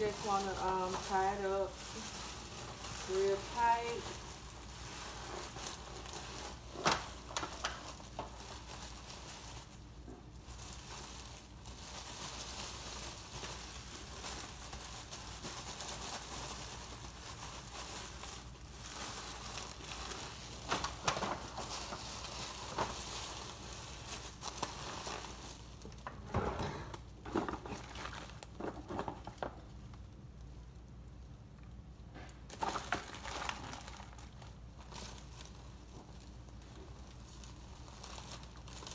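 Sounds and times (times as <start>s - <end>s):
plastic bags crinkling: 0.0s - 38.9s.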